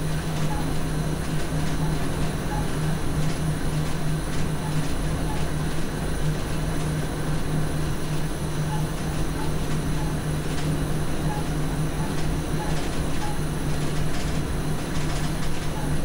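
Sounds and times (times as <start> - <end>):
train cab hum: 0.0 - 16.0.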